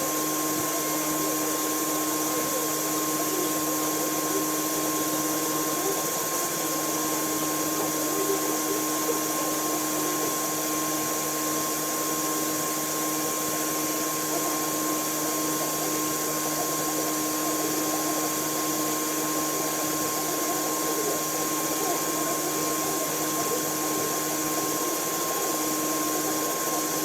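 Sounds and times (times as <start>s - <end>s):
machine tool running: 0.0s - 27.0s.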